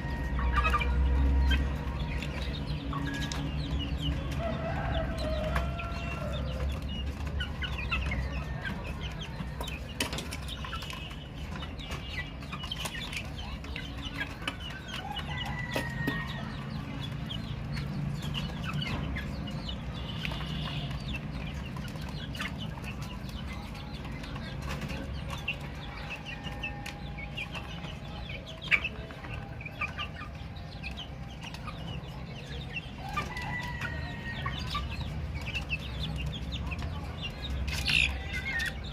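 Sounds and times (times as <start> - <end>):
baby chicks chirping: 0.0 - 38.9.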